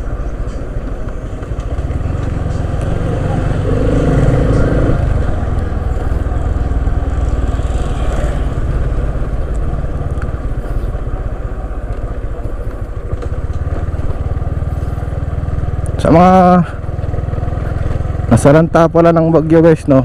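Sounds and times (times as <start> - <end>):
motorcycle engine rumble: 0.0 - 20.0.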